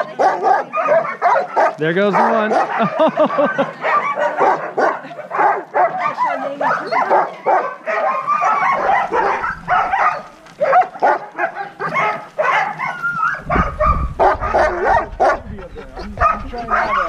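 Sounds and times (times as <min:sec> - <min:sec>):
dogs barking and whining: 0:00.0 - 0:17.0.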